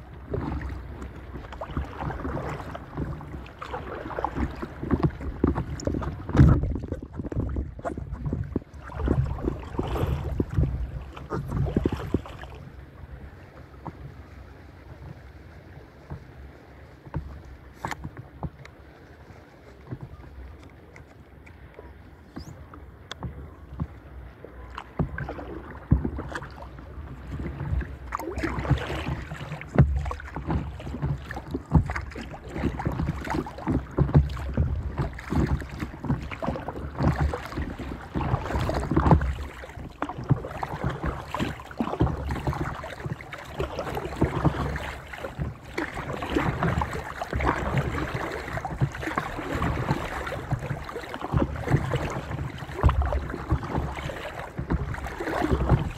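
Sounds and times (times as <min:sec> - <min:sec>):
wind rumbling on microphone: 0:00.0 - 0:15.3, 0:22.2 - 0:55.9
water lapping against paddleboard: 0:00.0 - 0:55.9.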